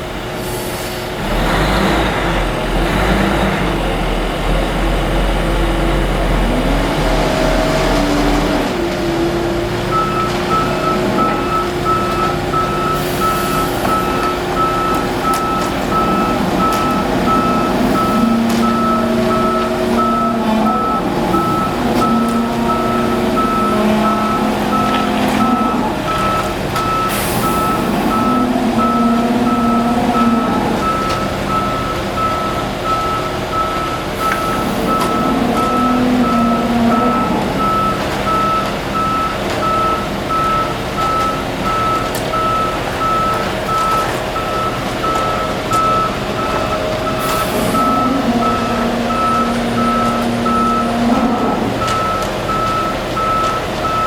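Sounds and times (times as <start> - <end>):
heavy truck engine running: 0.0 - 54.0
reversing alarm beeping: 9.7 - 54.0.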